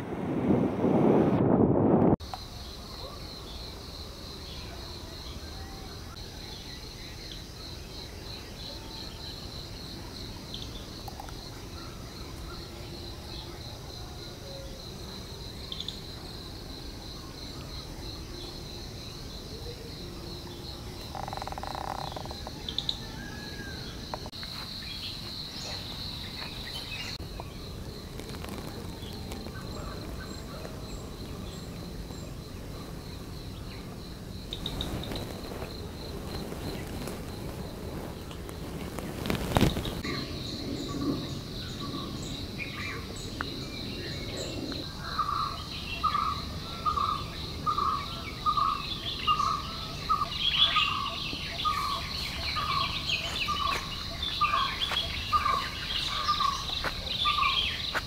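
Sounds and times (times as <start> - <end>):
crickets chirping: 1.8 - 58.0.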